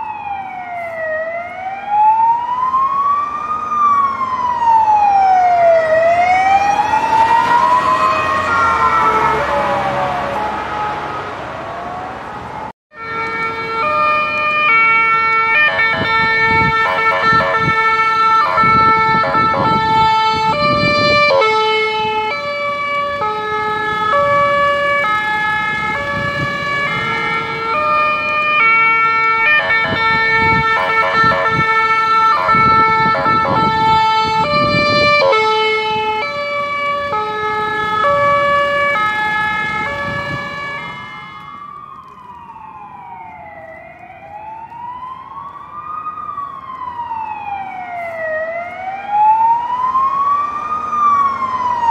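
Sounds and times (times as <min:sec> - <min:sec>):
two-tone ambulance siren: 0:00.0 - 0:51.9
wailing siren: 0:00.0 - 0:51.9.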